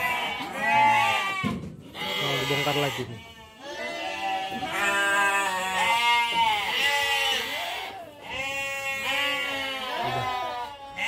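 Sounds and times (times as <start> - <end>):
sheep bleating: 0.0 - 11.0.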